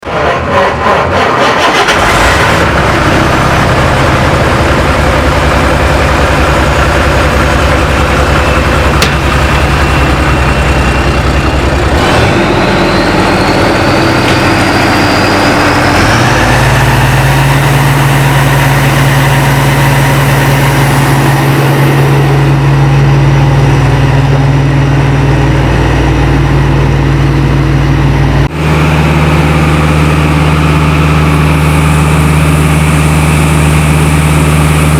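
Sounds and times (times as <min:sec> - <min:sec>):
diesel engine cranking and idling: 0:00.0 - 0:34.9
rising whine: 0:02.5 - 0:34.9.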